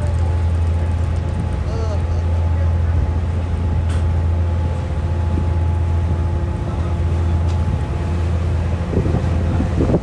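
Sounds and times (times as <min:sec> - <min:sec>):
ferry engines droning: 0:00.0 - 0:10.0.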